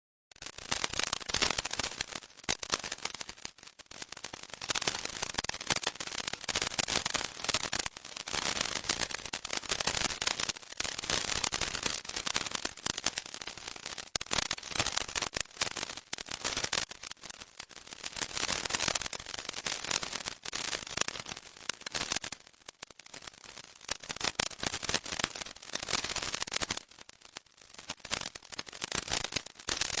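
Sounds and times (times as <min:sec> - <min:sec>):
electric crackle: 0:00.4 - 0:30.0.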